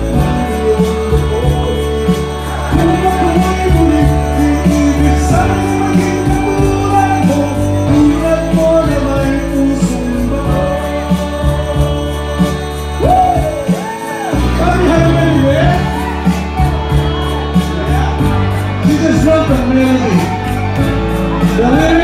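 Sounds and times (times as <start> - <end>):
man singing into microphone: 0.0 - 20.7, 21.3 - 22.0
backing music with beat: 0.0 - 22.0.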